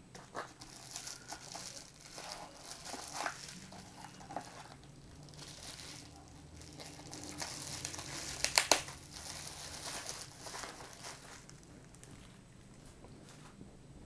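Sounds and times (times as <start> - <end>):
bubble wrap crinkling: 0.1 - 13.5.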